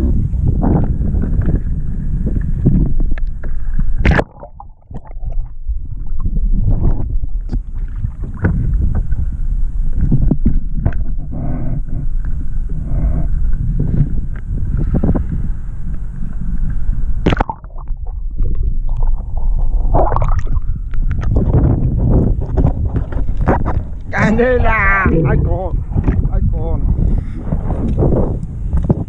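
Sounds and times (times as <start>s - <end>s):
wind noise: 0.0s - 29.0s.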